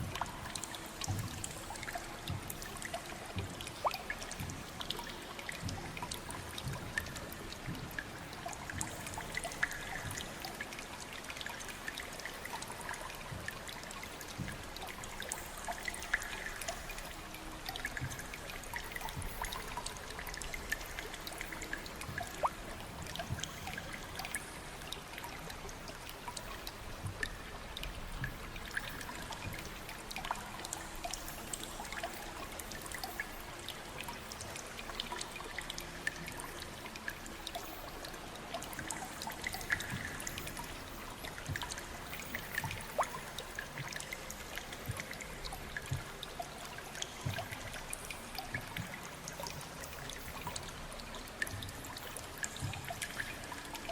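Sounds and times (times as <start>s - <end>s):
water drips and plinks: 0.0s - 53.9s
water trickling: 0.0s - 53.9s.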